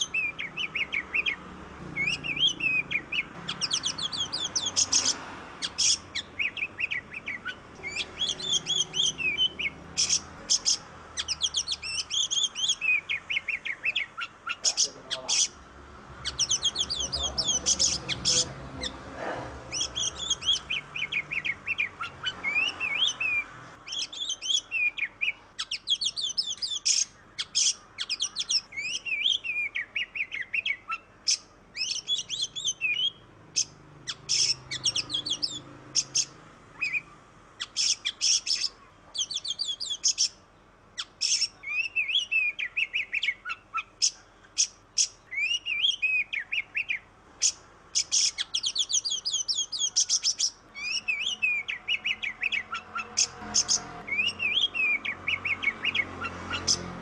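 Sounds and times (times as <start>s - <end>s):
bird singing whistles and chirps: 0.0s - 15.5s, 16.3s - 18.5s, 19.7s - 40.4s, 41.0s - 56.9s.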